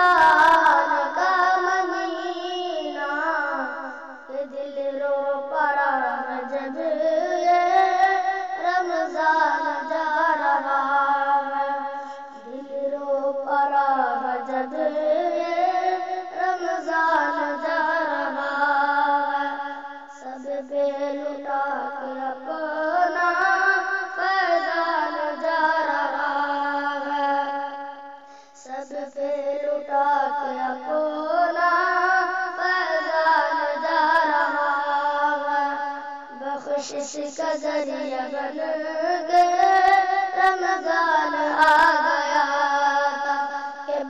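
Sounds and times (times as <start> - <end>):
boy singing: 0.0 - 44.0.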